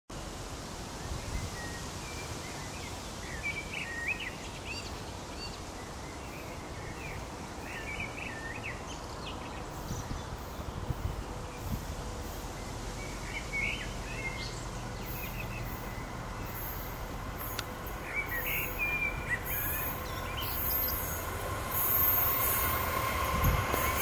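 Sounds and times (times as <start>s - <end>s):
songbird chirping: 1.0s - 24.0s.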